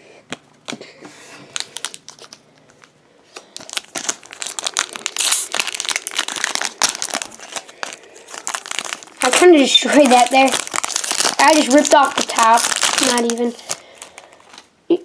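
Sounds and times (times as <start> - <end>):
foil wrapper crinkling: 1.4 - 14.7.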